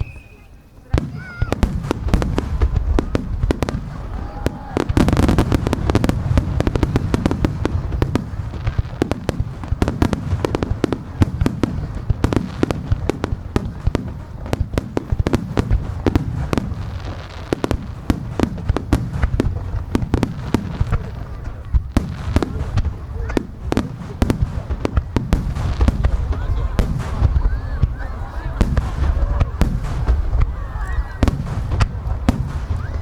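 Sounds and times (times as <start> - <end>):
fireworks booming and cracking: 0.0 - 33.0.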